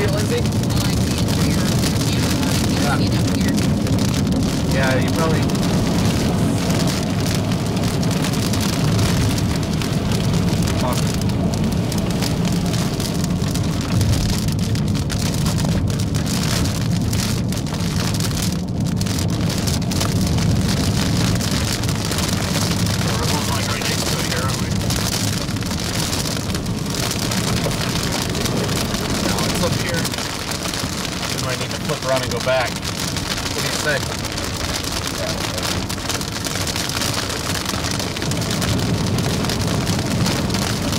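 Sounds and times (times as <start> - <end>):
rain beating on car: 0.0 - 40.9
road and engine rumble: 0.0 - 40.9.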